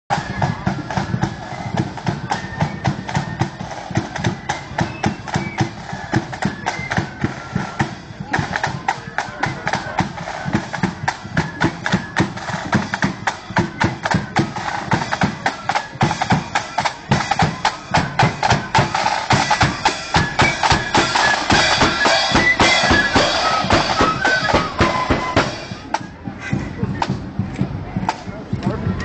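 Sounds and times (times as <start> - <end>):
flutes playing a tune: 0.1 - 27.1
side drums and bass drum: 0.1 - 29.0.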